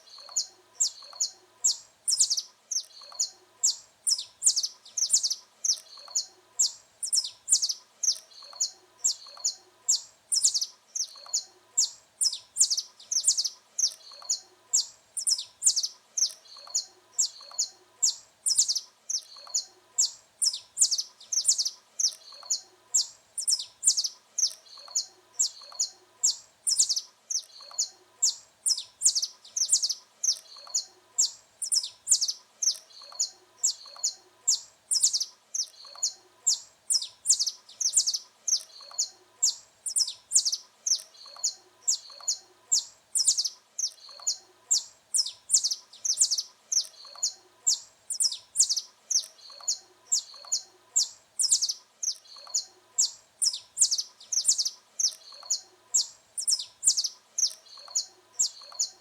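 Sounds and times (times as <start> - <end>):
finch singing high chirps: 0.0 - 59.0.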